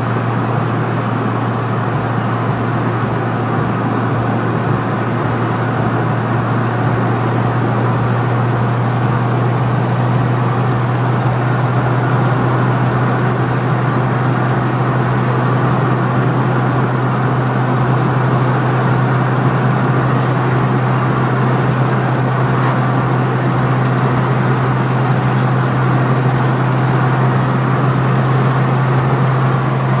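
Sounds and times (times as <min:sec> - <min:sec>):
car engine hum: 0:00.0 - 0:30.0
road and tyre noise: 0:00.0 - 0:30.0.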